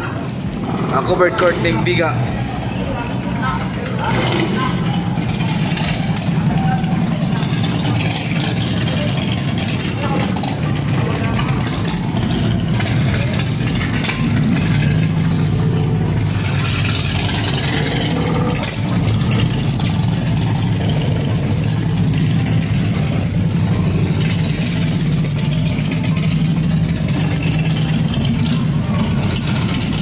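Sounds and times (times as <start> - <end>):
motorcycles riding past: 0.0 - 30.0.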